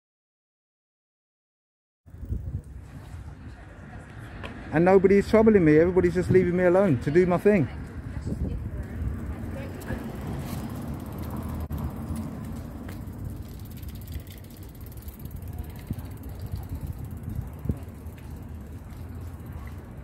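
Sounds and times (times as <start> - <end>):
low street rumble: 2.1 - 20.0.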